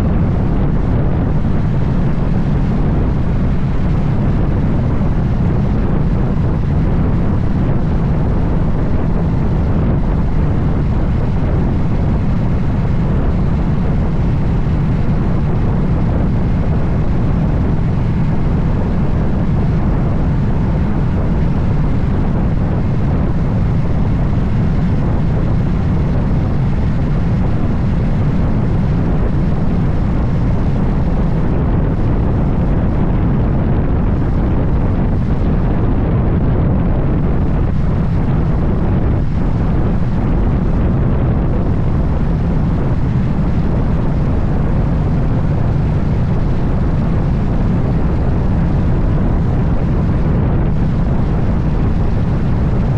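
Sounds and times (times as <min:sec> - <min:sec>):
wind rush over microphone: 0:00.0 - 0:52.9.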